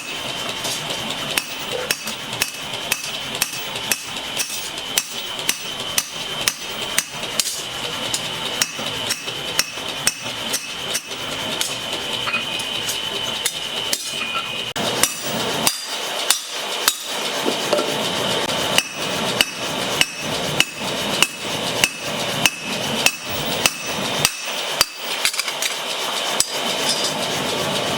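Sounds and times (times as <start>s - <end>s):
hammer forging metal on anvil: 0.0s - 27.3s
steady background noise: 0.0s - 27.9s.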